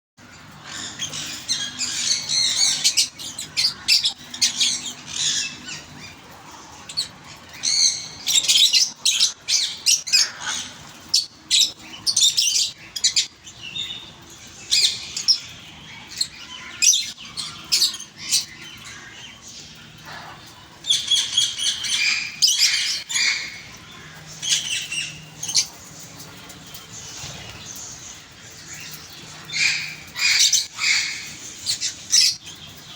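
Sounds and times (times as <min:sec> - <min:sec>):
parrots chirping and squawking: 0:00.2 - 0:32.9.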